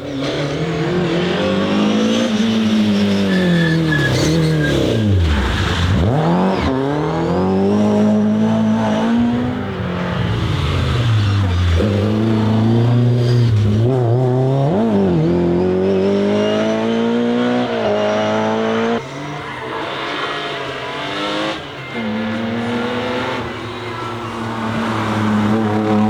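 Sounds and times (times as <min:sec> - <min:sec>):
car engine under hard throttle: 0:00.0 - 0:26.0.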